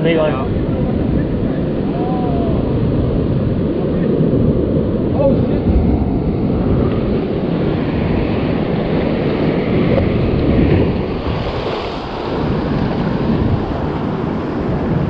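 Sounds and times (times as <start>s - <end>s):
ocean waves washing over rocks: 0.0s - 15.0s
wind buffeting microphone: 0.0s - 15.0s.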